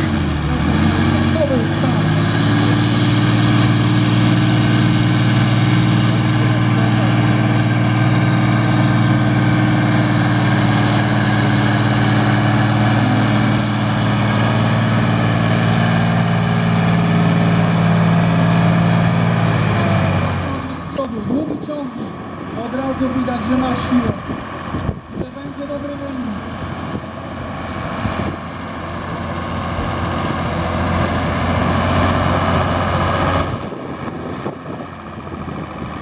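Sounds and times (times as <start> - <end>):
tractor diesel engine running hard: 0.0 - 36.0.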